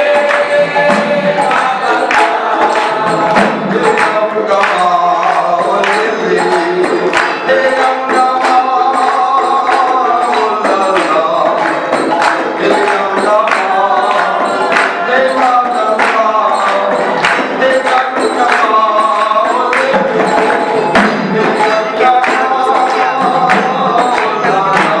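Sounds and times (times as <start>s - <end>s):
barrel drum beat: 0.0s - 25.0s
devotional song sung live: 0.0s - 25.0s
hand-clapping: 0.0s - 25.0s.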